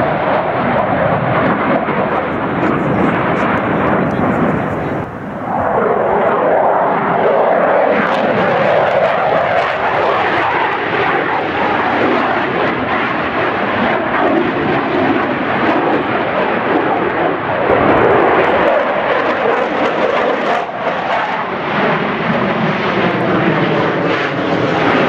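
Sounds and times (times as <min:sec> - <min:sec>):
fighter jet roaring: 0:00.0 - 0:25.0.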